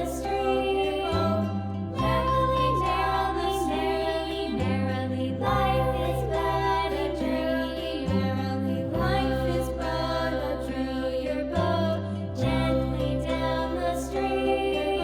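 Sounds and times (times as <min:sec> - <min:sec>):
background music with singing: 0:00.0 - 0:15.0.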